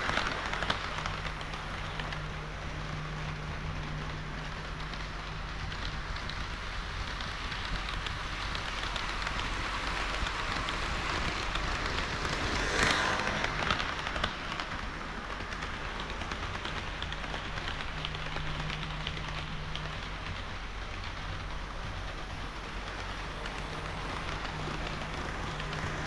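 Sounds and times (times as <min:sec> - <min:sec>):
low motor hum: 0:00.0 - 0:26.0
model train wheels rattling on rail: 0:00.0 - 0:26.0.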